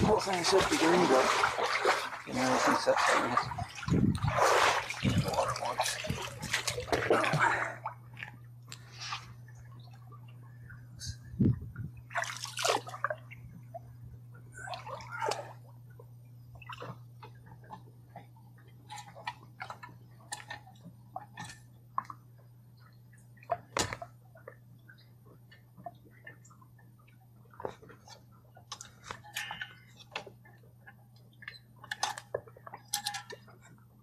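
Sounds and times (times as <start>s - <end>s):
low hum: 0.0s - 34.0s
water splashing and sloshing: 0.0s - 34.0s.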